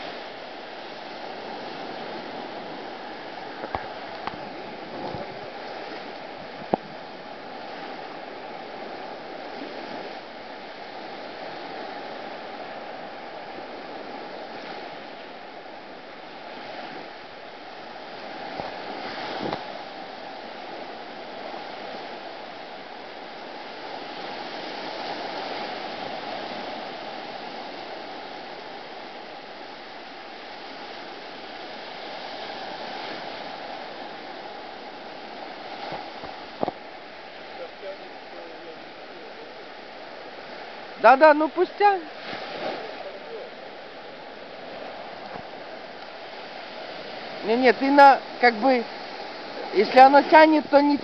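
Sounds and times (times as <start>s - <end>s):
surf on sandy beach: 0.0s - 51.0s.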